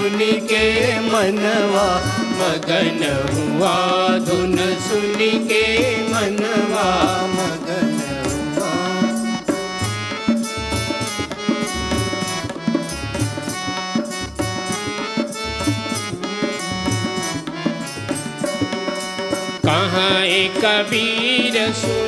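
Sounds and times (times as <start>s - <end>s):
harmonium playing chords: 0.0s - 22.0s
tabla and dholak drums: 0.0s - 22.0s.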